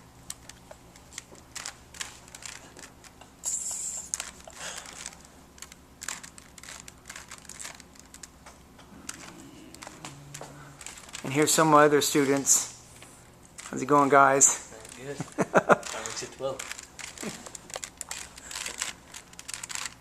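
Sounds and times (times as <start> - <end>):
puzzle cube plastic clicks: 0.3 - 8.4, 9.0 - 12.6, 13.5 - 20.0.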